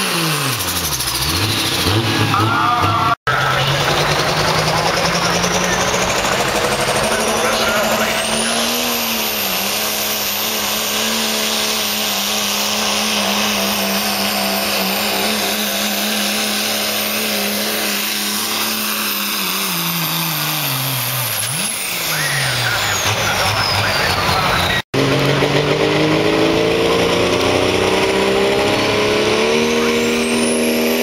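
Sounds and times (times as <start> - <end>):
diesel truck engine at full throttle: 0.0 - 31.0.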